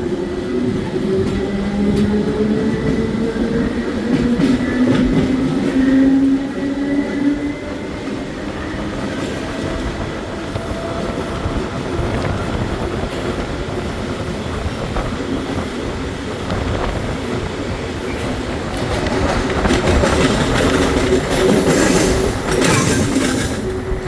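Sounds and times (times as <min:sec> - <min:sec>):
train wheels rumbling on rail: 0:00.0 - 0:24.0
train whine: 0:00.0 - 0:24.0.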